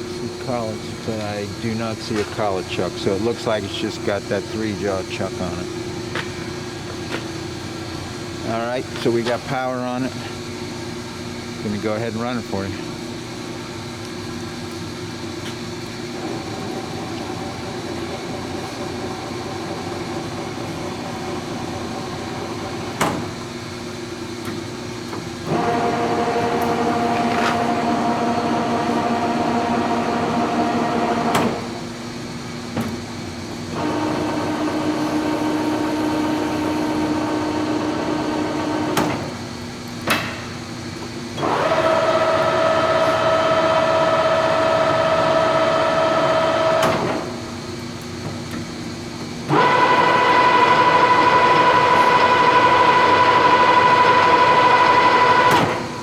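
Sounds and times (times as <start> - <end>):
lathe gear whine: 0.0 - 56.0.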